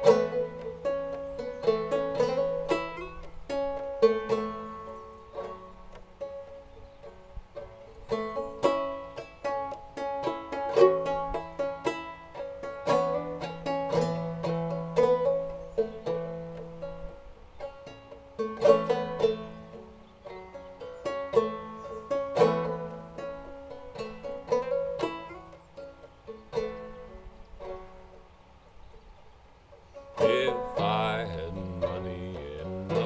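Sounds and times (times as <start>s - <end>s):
banjo playing: 0.0s - 33.0s.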